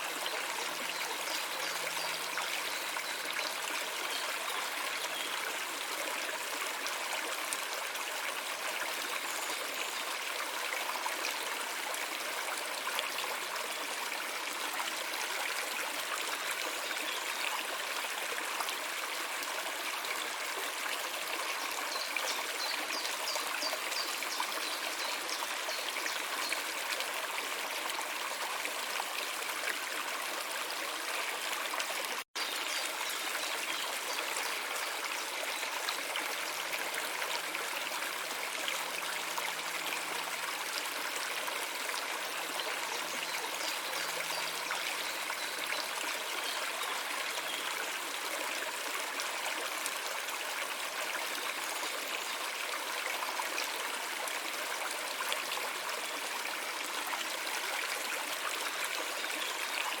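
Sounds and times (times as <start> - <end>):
stream water trickling: 0.0 - 60.0.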